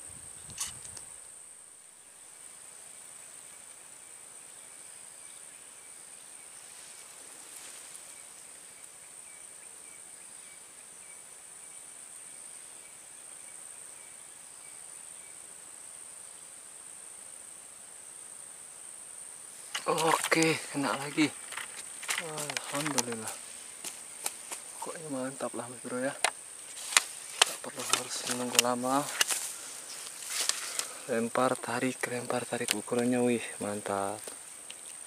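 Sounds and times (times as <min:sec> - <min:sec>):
insects droning high-pitched: 0:00.0 - 0:35.0.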